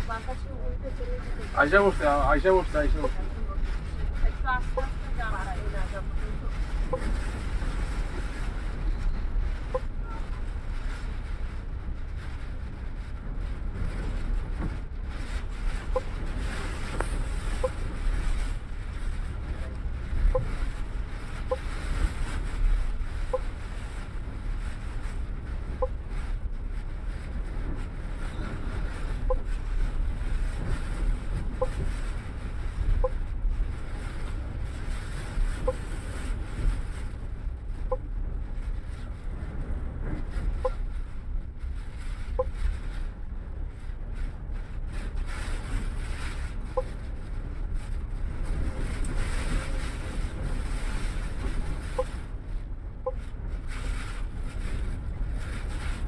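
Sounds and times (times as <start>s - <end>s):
bus engine and road rumble: 0.0s - 56.0s
wind gusting: 0.0s - 56.0s.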